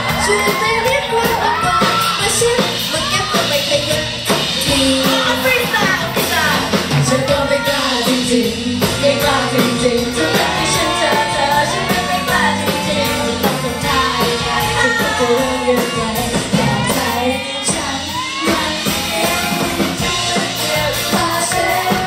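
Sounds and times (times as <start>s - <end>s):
drums beat: 0.0s - 22.0s
guitar: 0.0s - 22.0s
rock-pop band: 0.0s - 22.0s
woman singing into microphone: 0.2s - 22.0s.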